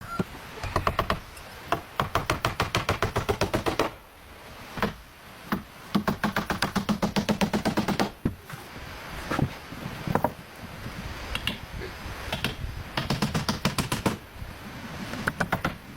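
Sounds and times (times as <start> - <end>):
faint steady background noise: 0.0 - 15.9.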